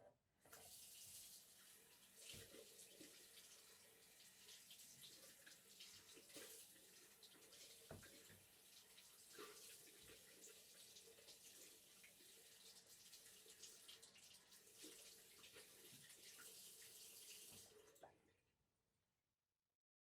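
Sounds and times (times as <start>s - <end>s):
faint running water: 0.4s - 18.4s
water drips and plops: 0.5s - 18.2s.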